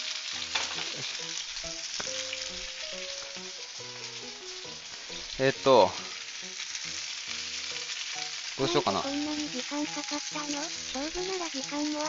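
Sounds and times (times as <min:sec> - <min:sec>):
dumplings sizzling in a frying pan: 0:00.0 - 0:12.0.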